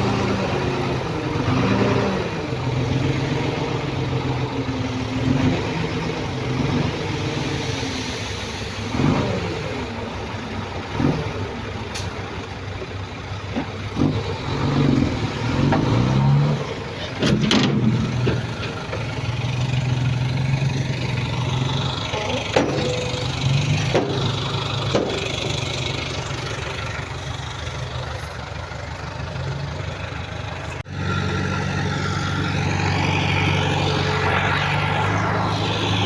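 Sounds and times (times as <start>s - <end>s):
heavy diesel machinery engine: 0.0s - 36.0s.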